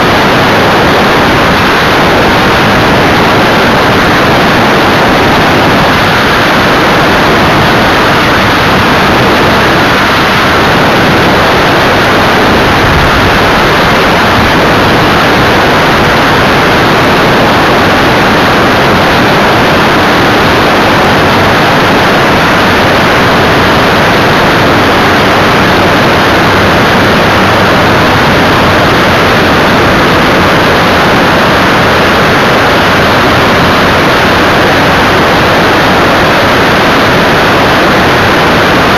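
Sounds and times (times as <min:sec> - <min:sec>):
propeller engine drone: 0:00.0 - 0:38.9
wind rushing: 0:00.0 - 0:38.9.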